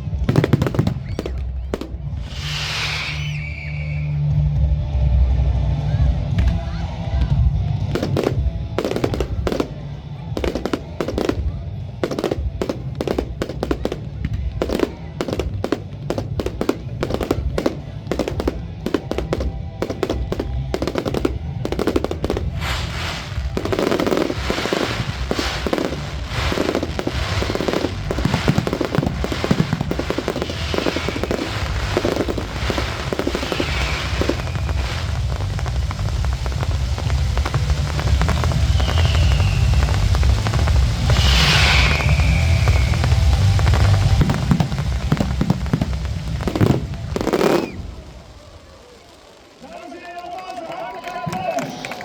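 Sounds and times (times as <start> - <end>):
fireworks crackling volleys: 0.0 - 52.0.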